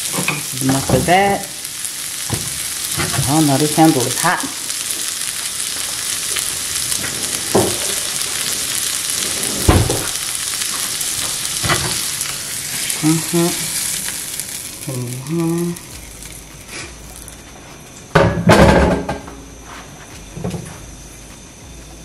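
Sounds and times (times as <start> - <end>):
food sizzling in skillet: 0.0 - 18.0.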